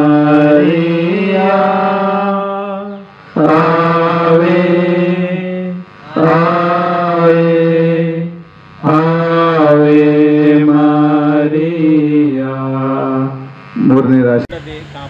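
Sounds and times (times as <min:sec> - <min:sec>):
prayer chanted on held notes: 0:00.0 - 0:14.4.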